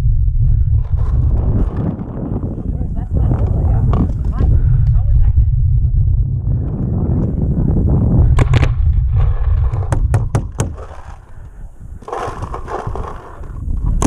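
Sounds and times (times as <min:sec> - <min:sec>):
heavy low rumble: 0:00.0 - 0:14.0.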